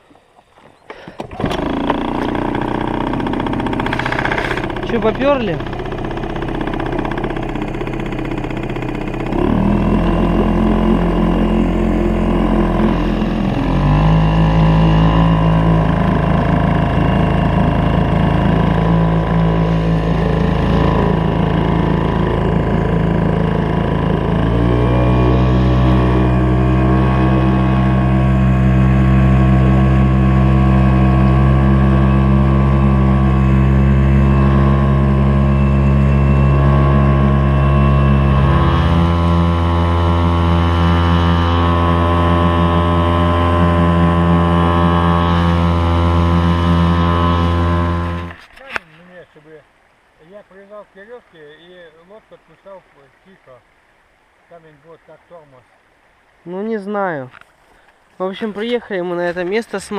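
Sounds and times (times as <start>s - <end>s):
boat motor running: 0.0s - 59.9s.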